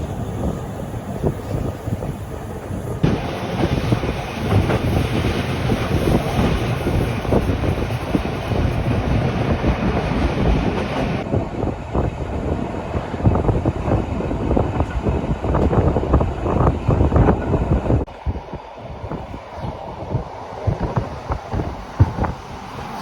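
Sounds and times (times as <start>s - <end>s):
train rumbling on rails: 0.0s - 23.0s.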